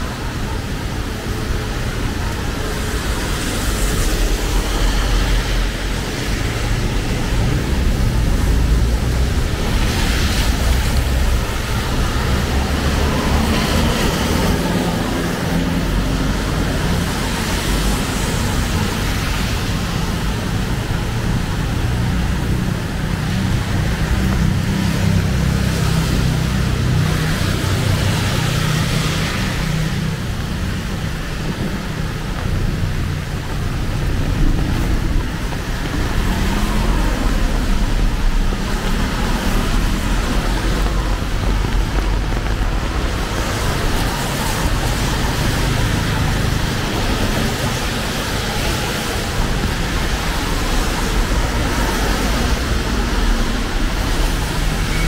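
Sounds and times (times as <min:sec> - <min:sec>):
heavy rain hiss: 0:00.0 - 0:55.0
vehicles passing on wet road: 0:00.0 - 0:55.0.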